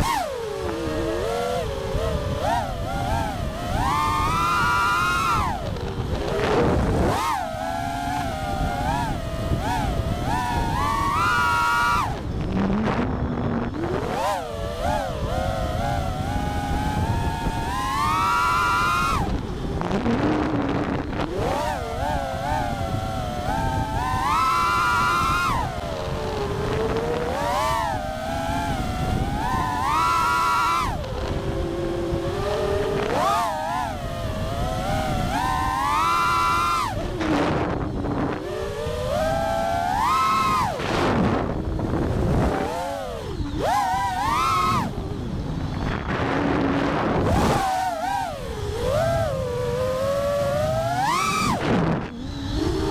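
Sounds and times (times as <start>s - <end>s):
drone motors whining: 0.0s - 52.9s.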